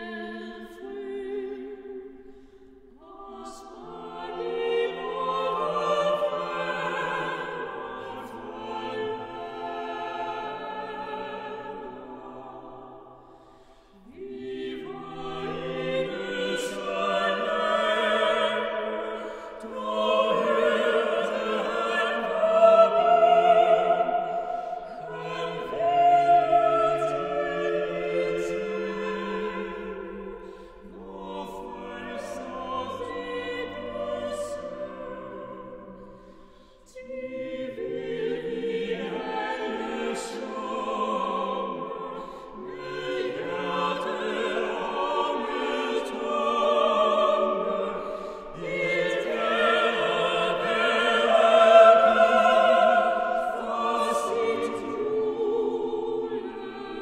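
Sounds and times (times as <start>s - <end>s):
vocal ensemble singing a hymn: 0.0s - 57.0s.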